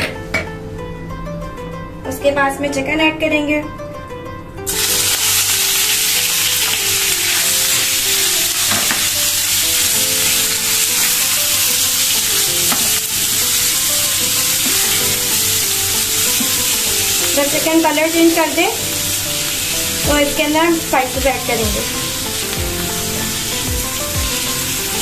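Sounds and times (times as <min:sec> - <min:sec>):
chicken sizzling in hot oil: 0:04.7 - 0:25.0.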